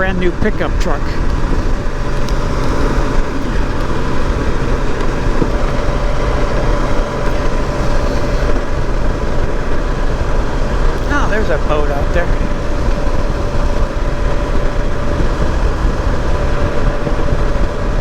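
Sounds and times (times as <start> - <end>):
motorcycle engine cruising: 0.0 - 18.0
wind and road noise: 0.0 - 18.0.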